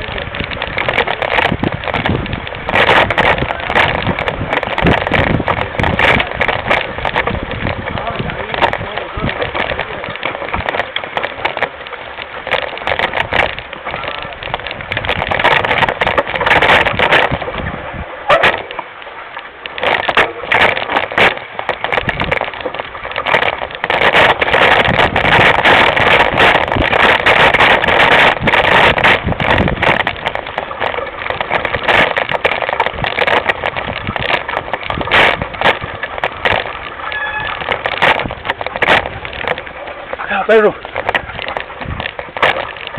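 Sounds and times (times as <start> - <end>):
bike rattling and clattering: 0.0 - 42.9.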